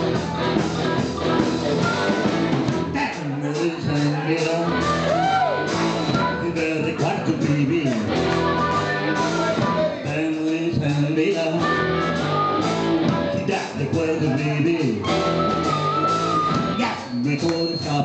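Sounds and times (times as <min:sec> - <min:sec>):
blues-rock band playing: 0:00.0 - 0:17.1.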